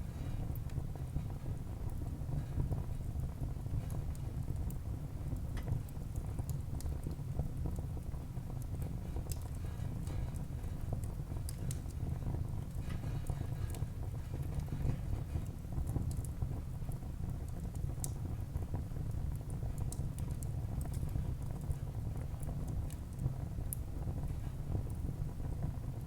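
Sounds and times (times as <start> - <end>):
burning wood crackling and popping: 0.0 - 26.0.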